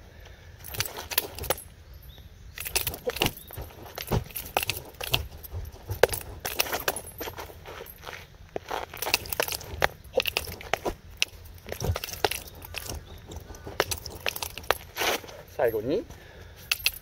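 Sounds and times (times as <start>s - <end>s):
nunchaku chains jangling: 0.6s - 17.0s.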